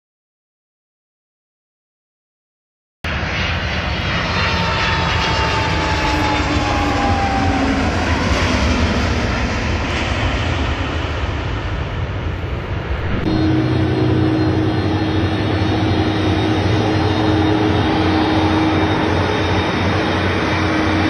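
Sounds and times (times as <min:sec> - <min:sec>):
jet engines roaring on landing: 0:03.1 - 0:21.0.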